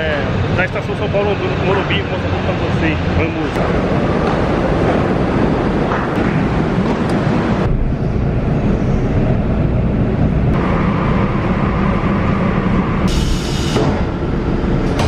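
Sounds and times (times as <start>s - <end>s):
hum: 0.0s - 15.0s.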